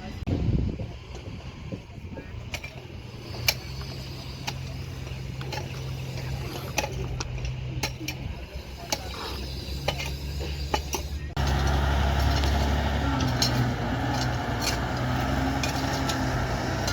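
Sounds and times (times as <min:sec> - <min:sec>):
excavator engine droning: 0:01.0 - 0:16.9.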